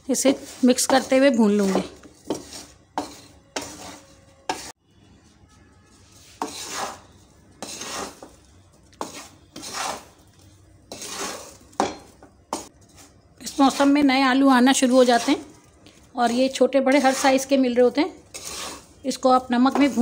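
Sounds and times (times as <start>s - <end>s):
wooden spatula scraping salt in pan: 0.1s - 4.8s, 5.9s - 11.7s, 12.5s - 17.6s, 18.3s - 20.0s.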